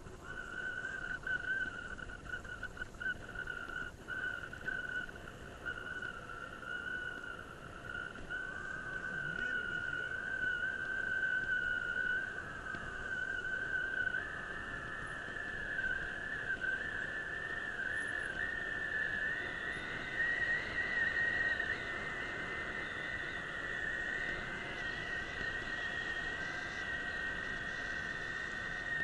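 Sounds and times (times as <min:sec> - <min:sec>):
bicycle brakes squealing: 0:00.0 - 0:29.0
wind and tyre rush: 0:00.0 - 0:29.0.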